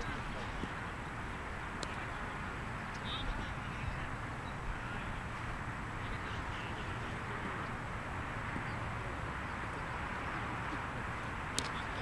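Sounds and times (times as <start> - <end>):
outdoor background hiss and rumble: 0.0 - 12.0.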